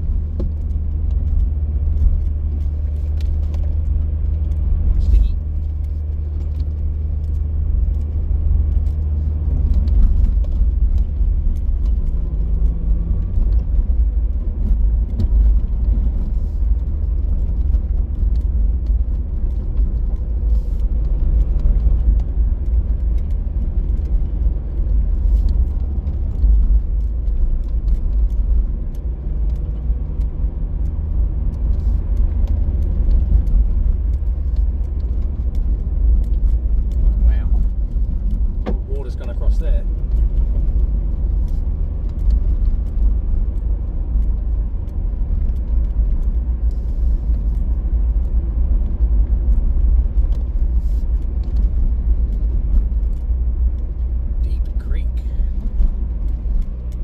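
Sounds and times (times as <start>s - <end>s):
car road and engine rumble: 0.0s - 57.0s
faint engine hum: 0.0s - 57.0s.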